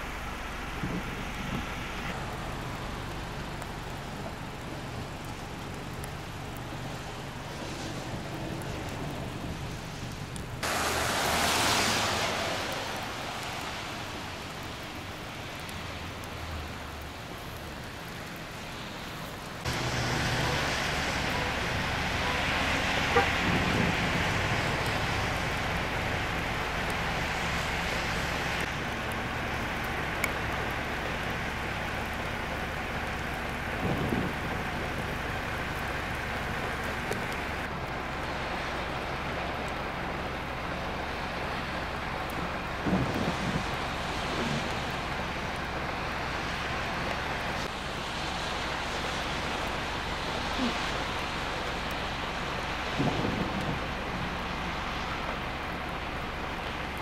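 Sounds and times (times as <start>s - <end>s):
freezing rain hissing: 0.0s - 57.0s
road traffic hum: 0.0s - 57.0s.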